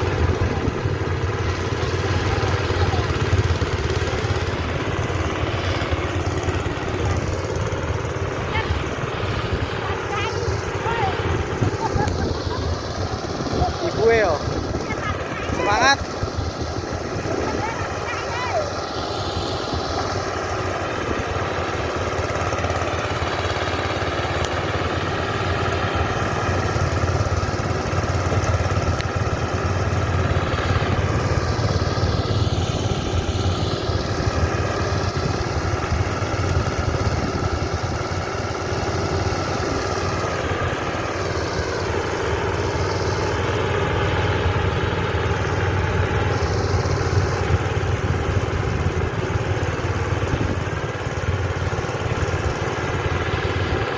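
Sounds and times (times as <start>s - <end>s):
harvester engine running: 0.0s - 53.9s.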